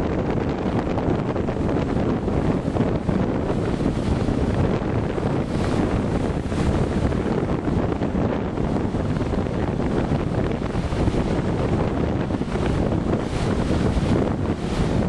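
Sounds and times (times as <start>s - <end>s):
blizzard wind buffeting microphone: 0.0s - 15.0s.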